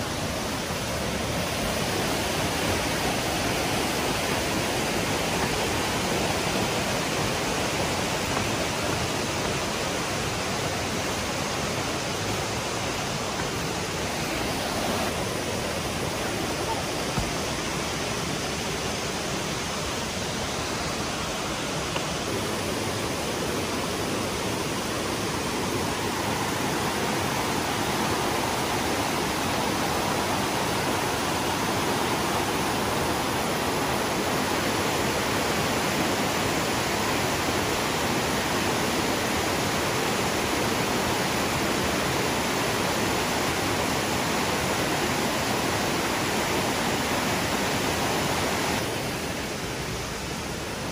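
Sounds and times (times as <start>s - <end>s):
flowing water rushing: 0.0s - 50.9s.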